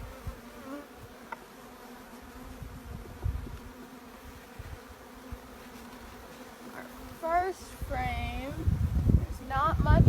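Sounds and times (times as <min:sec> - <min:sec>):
bees buzzing: 0:00.0 - 0:09.9.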